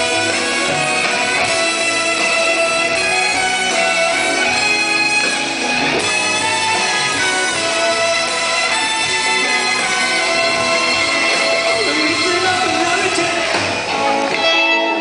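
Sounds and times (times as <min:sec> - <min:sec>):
electric guitar strummed: 0:00.0 - 0:15.0
rock band playing live: 0:00.0 - 0:15.0.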